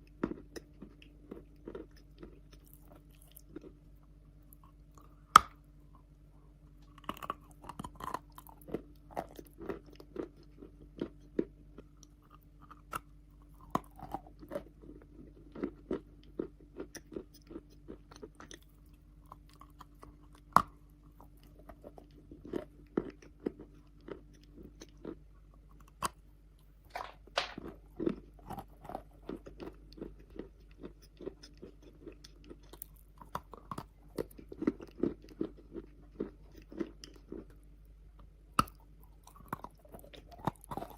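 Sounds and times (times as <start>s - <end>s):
wet chalk being chewed: 0.0s - 6.1s, 6.8s - 26.2s, 26.9s - 37.6s, 38.2s - 40.9s.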